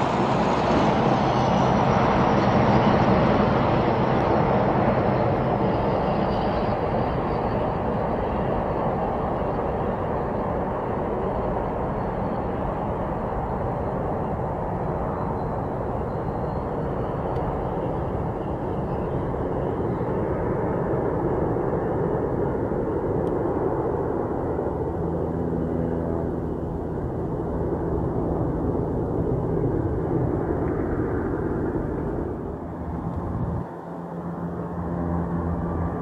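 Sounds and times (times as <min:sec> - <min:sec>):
jet engines rumbling: 0:00.0 - 0:36.0
turboprop drone: 0:00.0 - 0:36.0.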